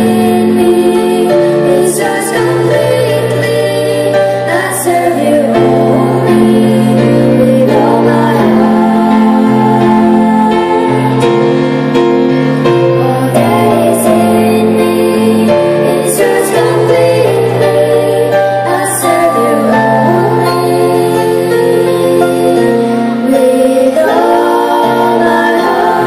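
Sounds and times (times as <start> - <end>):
girls singing into microphones: 0.0 - 11.6, 12.8 - 26.0
instrumental accompaniment: 0.0 - 26.0.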